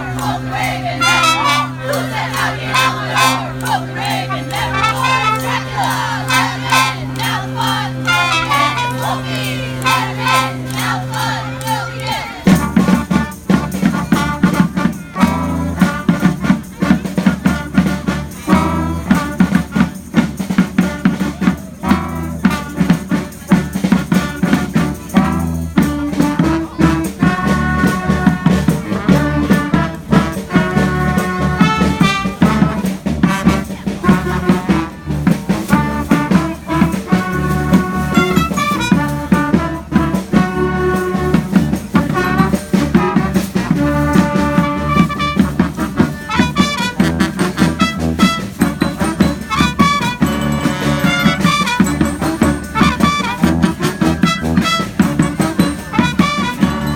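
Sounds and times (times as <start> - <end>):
brass band horns playing: 0.0 - 56.9
driving drum beat: 0.0 - 56.9.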